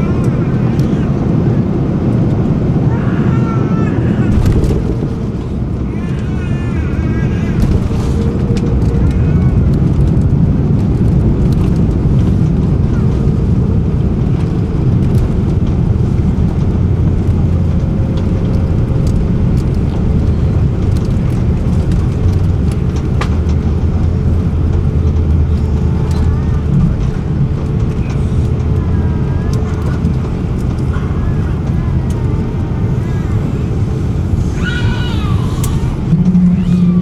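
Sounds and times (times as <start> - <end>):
airliner engine roar in cabin: 0.0 - 37.0.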